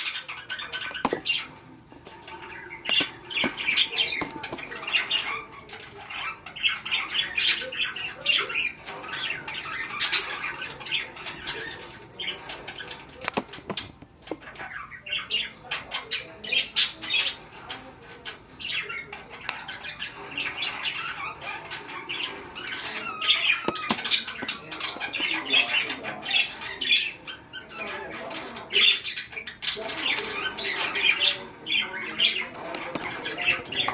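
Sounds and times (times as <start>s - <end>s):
budgerigars chattering and squawking: 0.0s - 33.9s.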